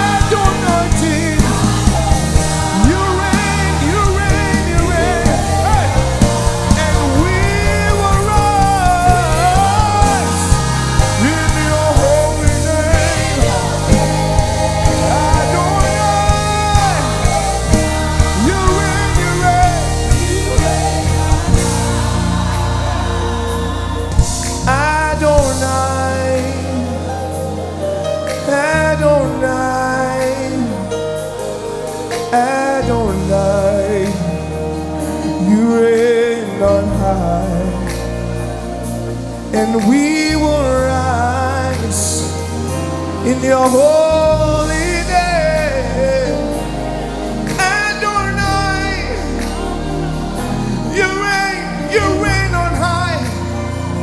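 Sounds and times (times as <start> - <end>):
gospel band with singing: 0.0 - 54.0.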